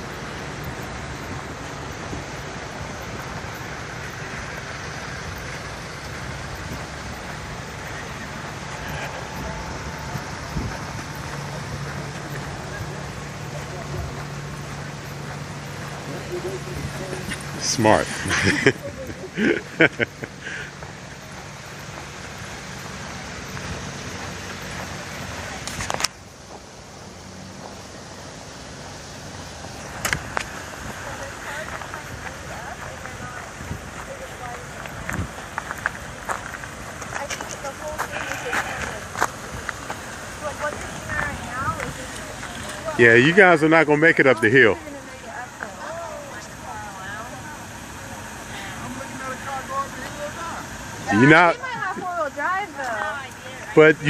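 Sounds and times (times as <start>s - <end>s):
car engines rumbling: 0.0s - 54.0s
traffic hiss: 0.0s - 54.0s.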